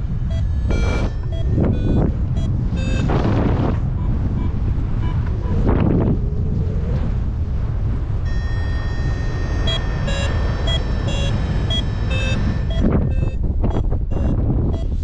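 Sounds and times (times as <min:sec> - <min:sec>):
variometer beeping: 0:00.0 - 0:05.9, 0:08.2 - 0:15.0
wind buffeting microphone: 0:00.0 - 0:15.0.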